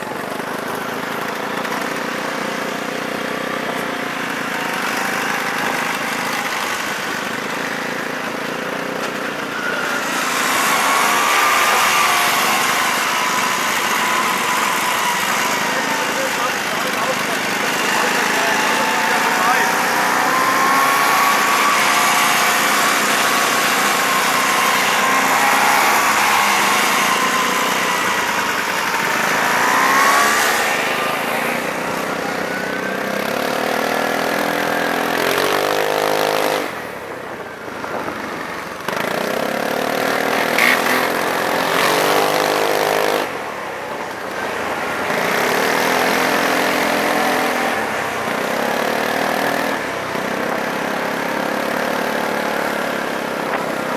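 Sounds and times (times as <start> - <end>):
motorcycles accelerating: 0.0 - 53.9.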